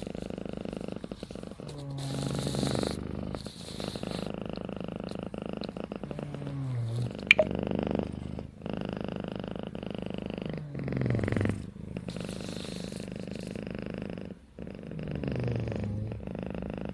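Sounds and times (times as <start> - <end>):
kitten purring: 0.0 - 16.9.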